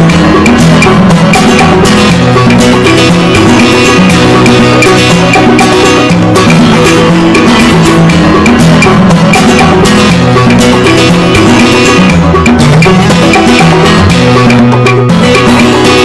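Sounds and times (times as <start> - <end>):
upbeat music with percussion: 0.0 - 16.0.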